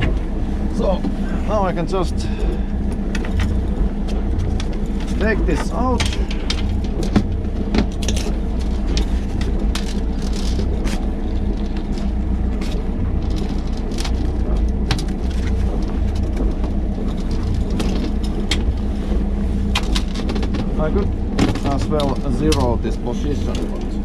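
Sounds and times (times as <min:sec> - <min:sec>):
boat engine idling: 0:00.0 - 0:24.0
fishing gear clicks and rustles: 0:01.8 - 0:24.0.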